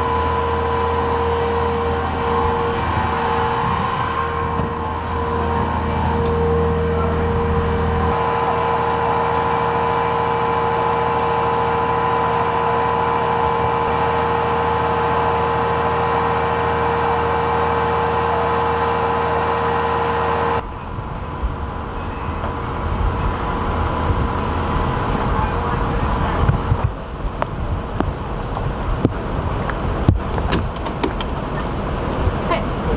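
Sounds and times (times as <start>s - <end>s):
quieter hum: 0.0s - 32.9s
vehicle engine whining and rumbling: 0.0s - 32.9s.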